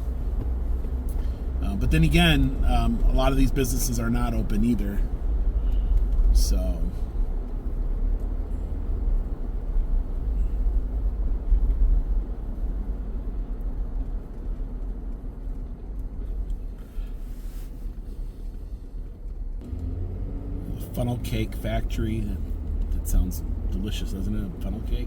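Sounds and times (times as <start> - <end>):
car road rumble from inside: 0.0 - 25.0.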